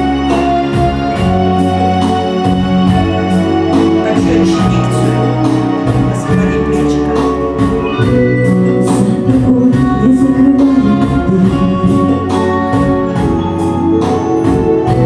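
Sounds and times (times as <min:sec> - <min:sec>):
instrumental backing track: 0:00.0 - 0:15.0.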